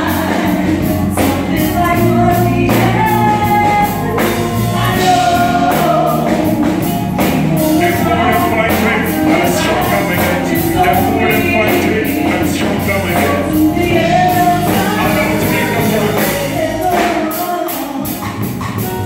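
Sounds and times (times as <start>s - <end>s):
drum kit beat: 0.0s - 19.0s
live band with singing: 0.0s - 19.0s.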